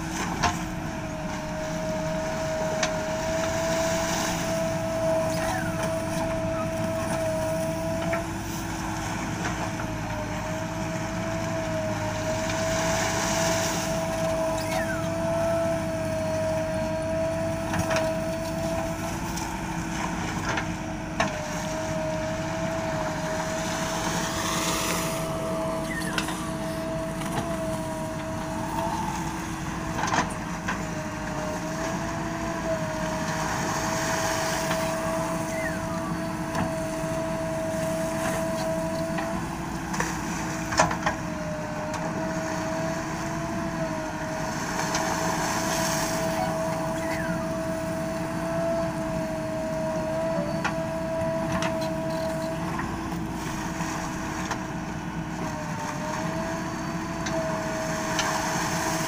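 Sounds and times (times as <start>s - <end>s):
diesel engine running: 0.0s - 59.0s
steady whine: 0.0s - 59.0s.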